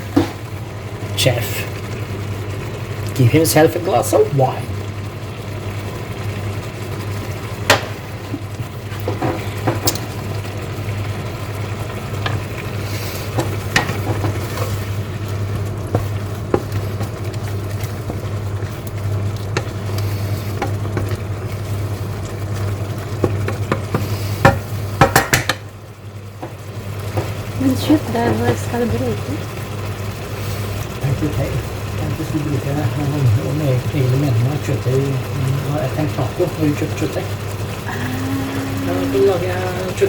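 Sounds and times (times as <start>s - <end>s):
chicken sizzling in a pan: 0.0s - 40.0s
steady low hum: 0.0s - 40.0s.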